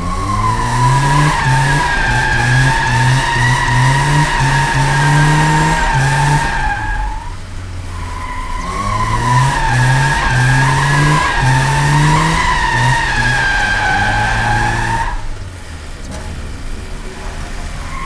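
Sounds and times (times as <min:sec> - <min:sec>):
tyres squealing: 0:00.0 - 0:15.3
car engine revving: 0:00.0 - 0:18.0.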